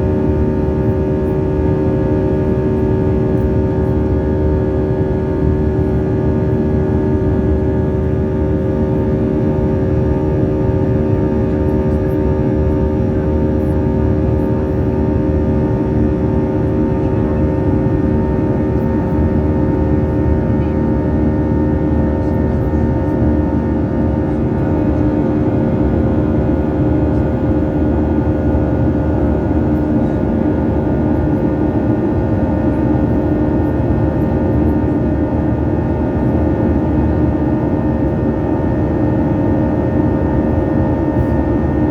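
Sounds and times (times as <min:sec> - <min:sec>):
jet engines heard inside cabin: 0:00.0 - 0:41.9.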